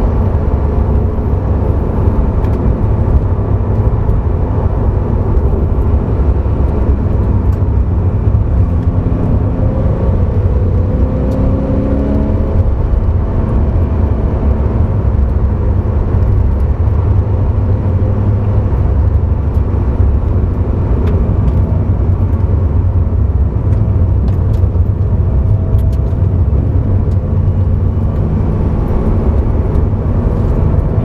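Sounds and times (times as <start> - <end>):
car engine and road noise drone: 0.0 - 31.0.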